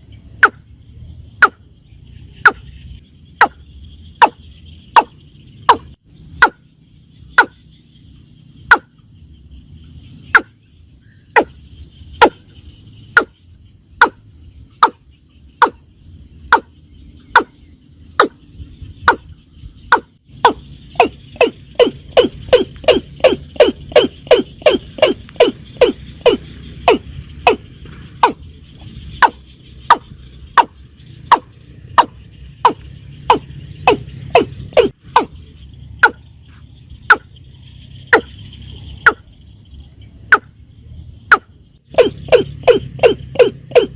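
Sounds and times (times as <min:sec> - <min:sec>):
bird calling sharp notes: 0:00.0 - 0:43.9.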